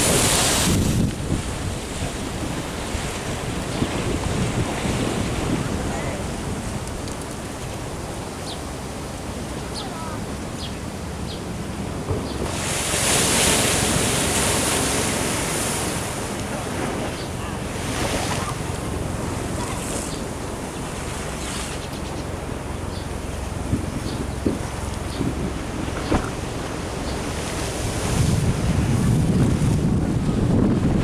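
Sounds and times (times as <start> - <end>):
wind rumble on microphone: 0.0 - 8.9, 9.7 - 31.0
ocean surf washing in: 0.0 - 31.0.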